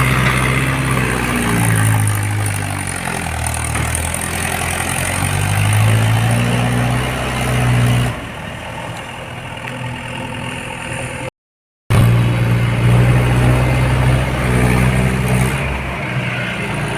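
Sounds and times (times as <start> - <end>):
diesel tractor engine under load: 0.0 - 11.3, 11.9 - 16.9.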